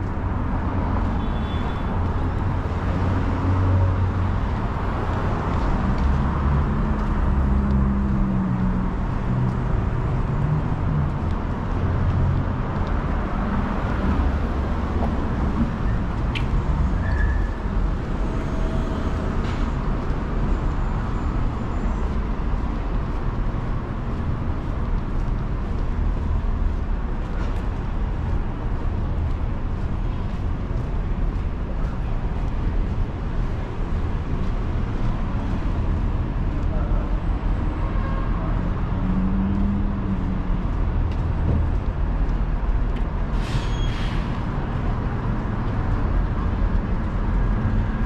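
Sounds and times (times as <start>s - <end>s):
traffic rumble: 0.0s - 48.0s.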